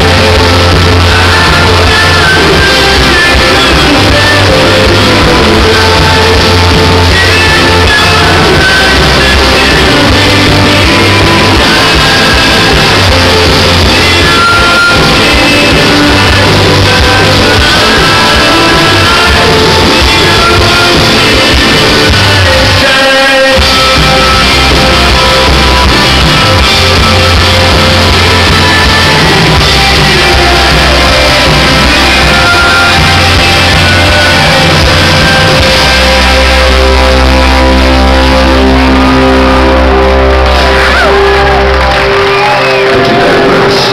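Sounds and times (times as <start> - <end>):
lead vocal singing: 0.0 - 43.9
rock band playing live: 0.0 - 43.9.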